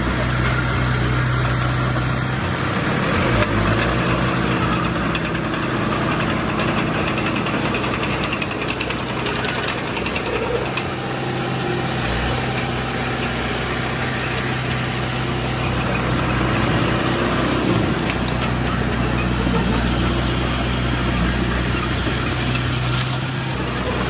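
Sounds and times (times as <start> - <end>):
diesel engine low hum: 0.0 - 24.0.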